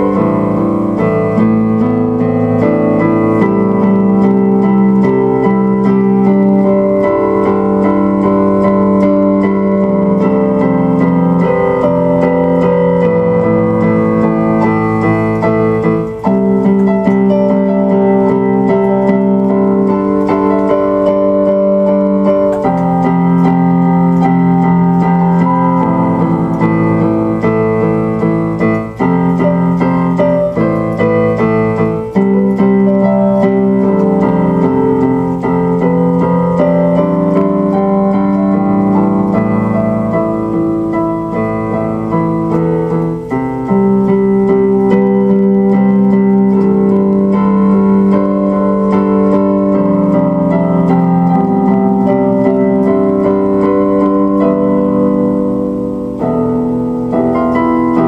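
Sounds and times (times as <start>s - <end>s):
electronic keyboard chords: 0.0s - 58.0s.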